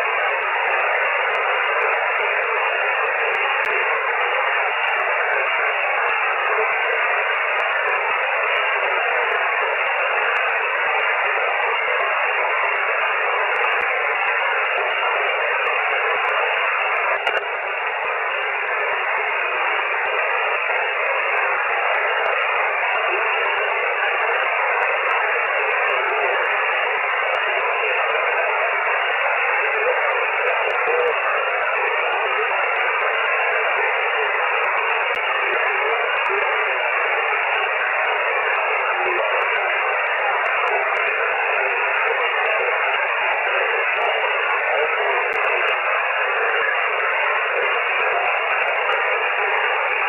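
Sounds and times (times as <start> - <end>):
radio receiver hiss: 0.0 - 50.0.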